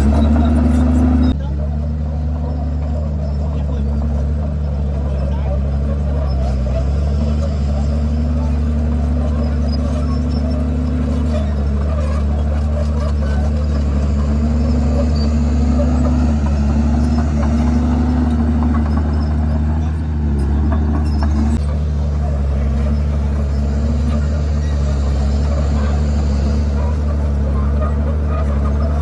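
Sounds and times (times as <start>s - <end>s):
bulldozer diesel engine: 0.0s - 29.0s.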